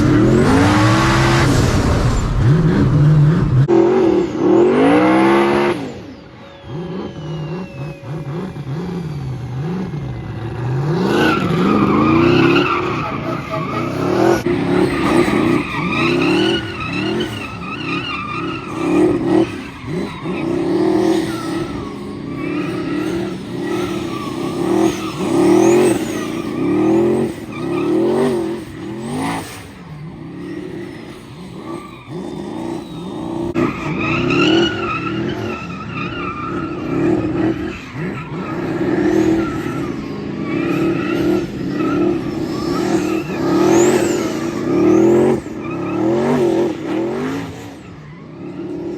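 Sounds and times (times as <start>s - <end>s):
race car engine revving: 0.0s - 48.9s
tyres squealing: 6.7s - 48.4s.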